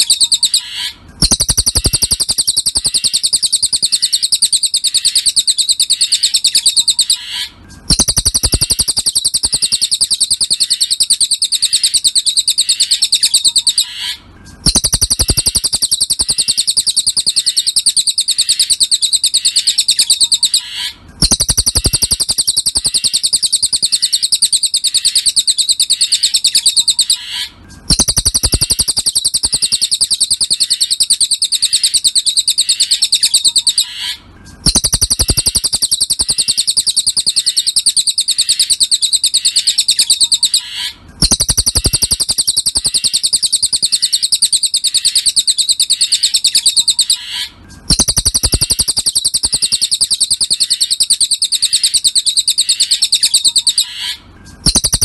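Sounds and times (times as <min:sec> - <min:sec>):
bird trilling: 0:00.0 - 0:55.0.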